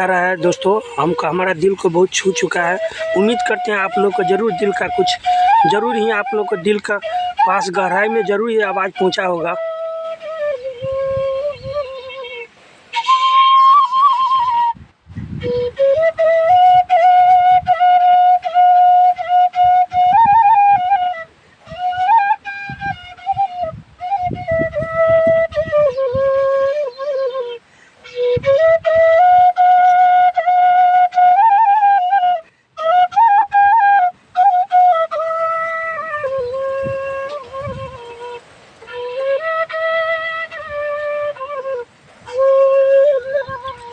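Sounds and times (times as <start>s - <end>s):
bamboo flute melody: 0.0s - 43.9s.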